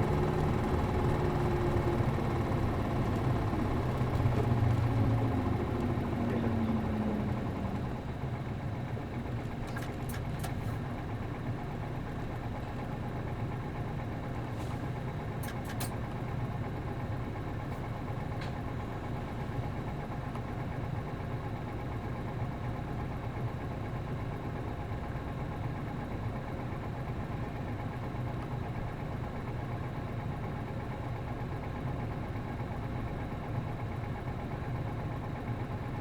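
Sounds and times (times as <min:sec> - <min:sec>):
diesel bus engine idling: 0:00.0 - 0:36.0.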